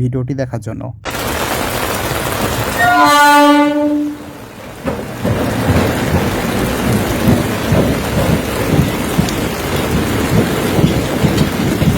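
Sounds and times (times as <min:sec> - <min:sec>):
heavy rain falling: 0:01.1 - 0:11.9.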